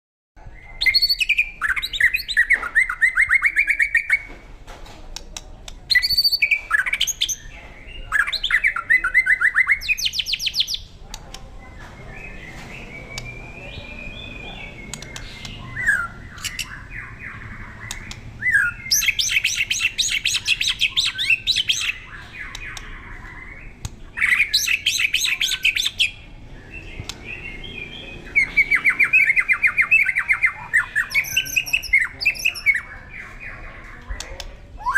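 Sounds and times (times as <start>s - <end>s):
songbird singing fast phrases: 0.4s - 4.3s, 5.2s - 34.9s
quiet bird calls: 5.6s - 34.9s.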